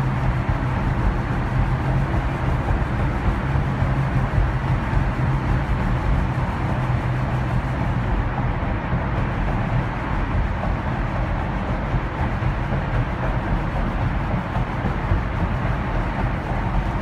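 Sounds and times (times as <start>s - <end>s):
car driving through tunnel: 0.0s - 17.0s
low hum: 0.0s - 17.0s.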